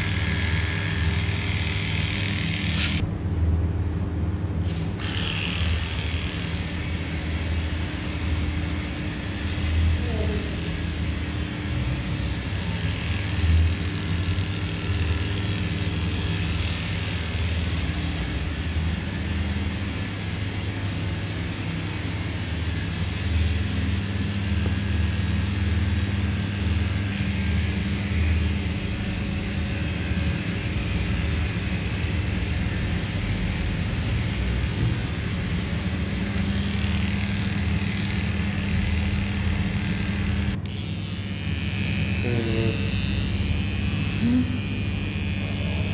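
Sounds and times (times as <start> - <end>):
electric clippers humming: 0.0 - 3.1, 4.5 - 45.9.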